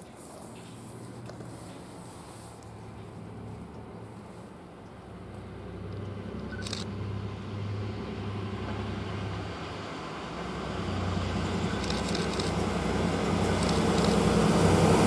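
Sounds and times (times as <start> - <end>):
diesel locomotive engine hum: 0.0 - 15.0.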